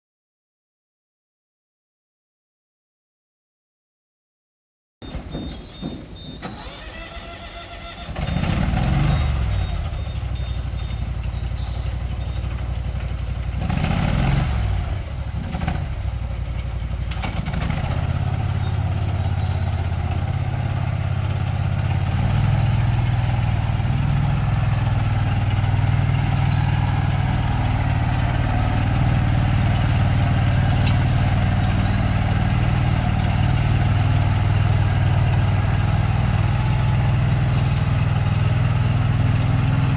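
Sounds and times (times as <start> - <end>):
engine starting and idling: 5.0 - 39.9.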